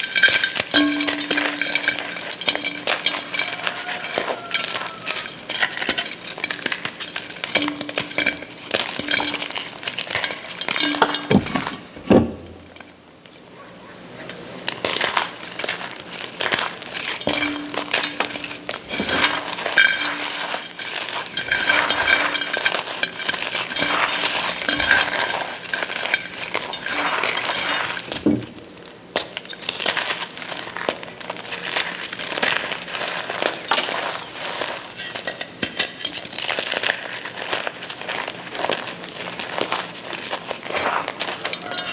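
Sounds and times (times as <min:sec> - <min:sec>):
chalk being crushed: 0:00.0 - 0:11.8, 0:14.7 - 0:28.3, 0:29.2 - 0:41.9.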